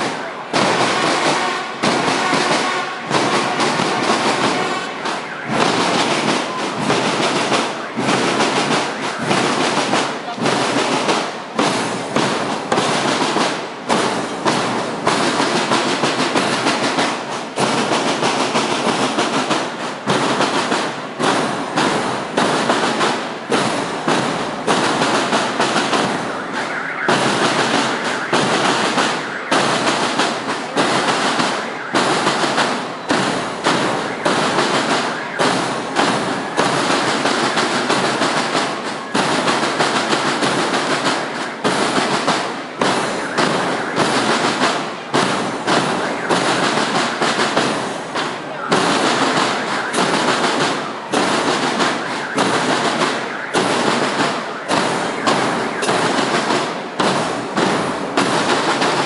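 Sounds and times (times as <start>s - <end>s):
bugles playing: 0.0s - 59.0s
snare drums: 0.0s - 59.0s.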